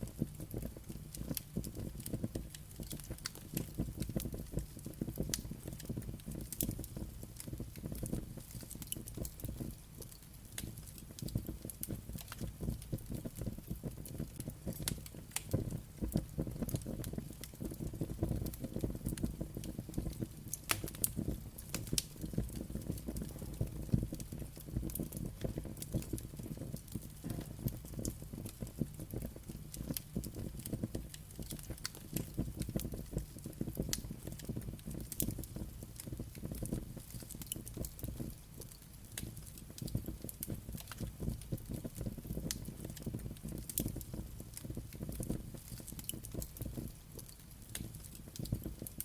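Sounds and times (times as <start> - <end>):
sharp fire snaps: 0.0 - 49.0
wood fire crackling: 0.0 - 49.0.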